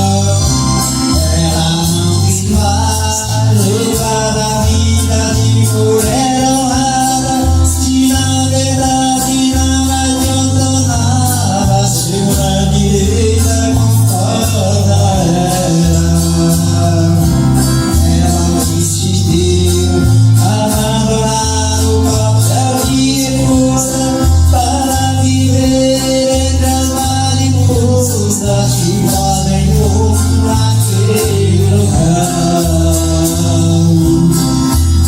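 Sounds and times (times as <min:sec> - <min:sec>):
band playing: 0:00.0 - 0:35.0.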